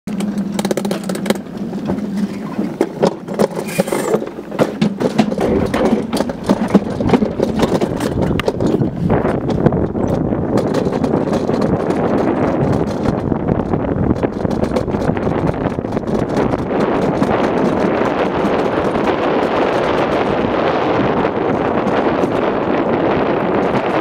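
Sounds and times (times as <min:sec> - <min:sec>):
sled rumbling and clacking in trough: 0:00.0 - 0:24.0.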